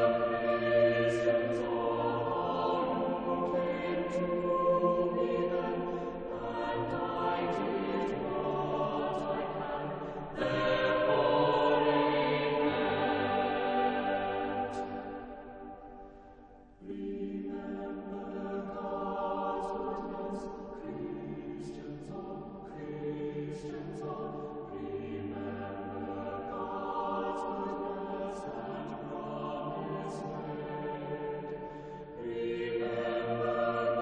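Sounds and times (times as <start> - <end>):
choir singing held chords: 0.0 - 34.0.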